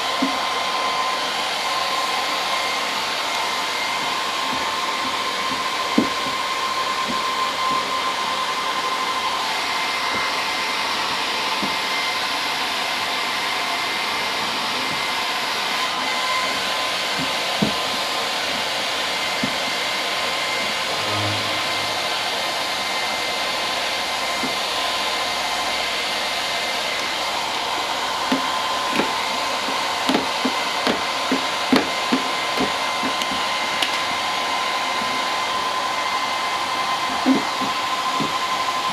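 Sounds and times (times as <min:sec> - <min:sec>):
heat gun blowing with high whine: 0:00.0 - 0:38.9.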